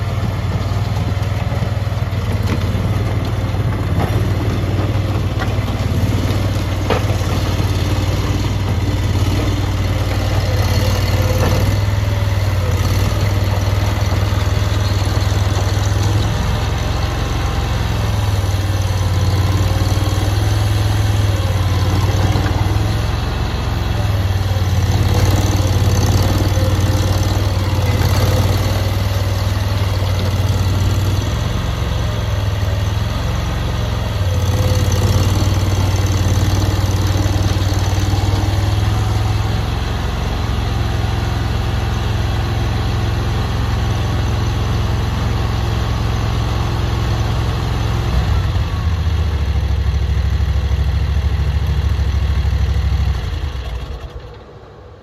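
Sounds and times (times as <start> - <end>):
track loader engine running: 0.0 - 55.0.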